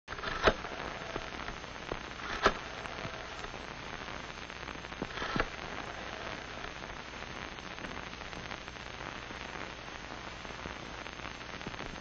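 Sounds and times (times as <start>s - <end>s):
old film soundtrack hiss and crackle: 0.0s - 12.0s.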